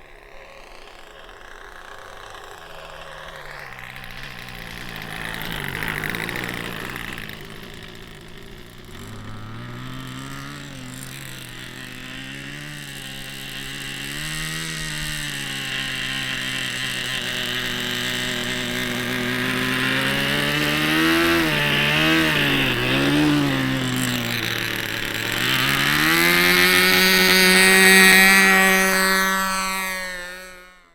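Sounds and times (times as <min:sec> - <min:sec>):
model airplane engine running: 0:00.0 - 0:30.9.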